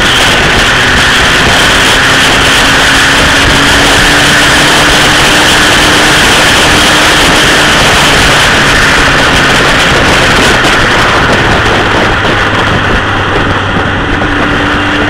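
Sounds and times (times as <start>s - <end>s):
motorcycle engine cruising: 0.0s - 15.0s
wind rush over microphone: 0.0s - 15.0s.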